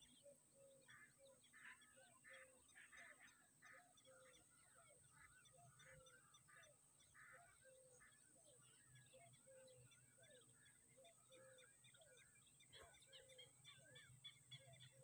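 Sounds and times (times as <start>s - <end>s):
birds chirping and warbling: 0.0s - 15.0s.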